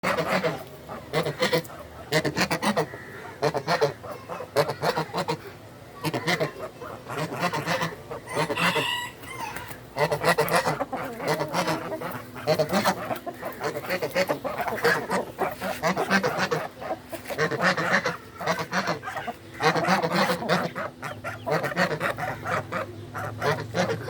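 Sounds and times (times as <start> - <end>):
chickens clucking and calling: 0.0 - 24.0.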